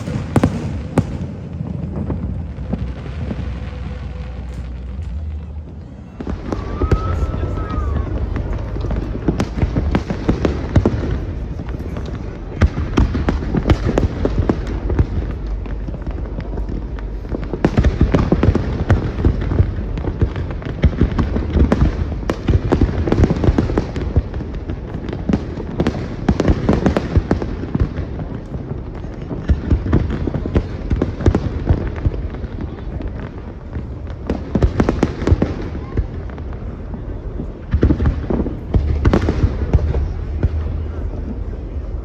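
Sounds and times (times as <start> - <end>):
deep low fireworks booms: 0.0 - 42.0
fireworks bangs and crackles: 0.0 - 42.0.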